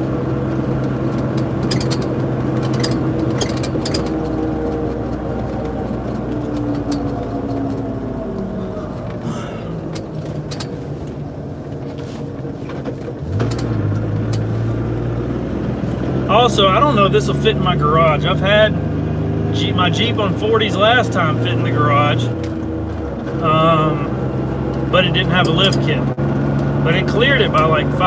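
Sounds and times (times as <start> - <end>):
car engine: 0.0 - 28.0
road noise: 0.0 - 28.0.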